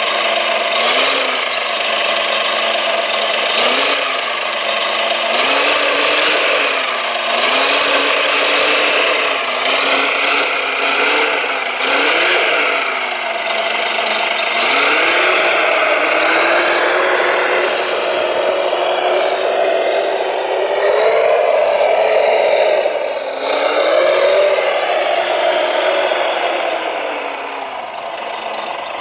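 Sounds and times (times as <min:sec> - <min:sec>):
model vehicle motor whirring: 0:00.0 - 0:29.0.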